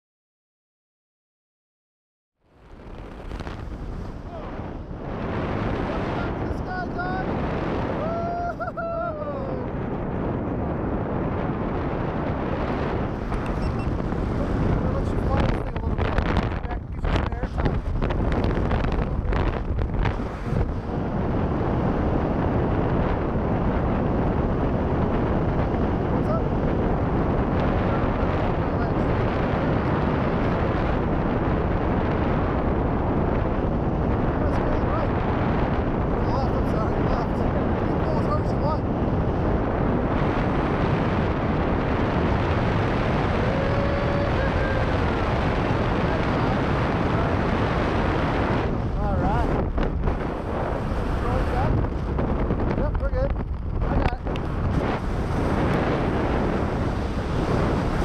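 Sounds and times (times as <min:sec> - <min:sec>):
wind rushing over microphone: 0:02.4 - 0:58.0.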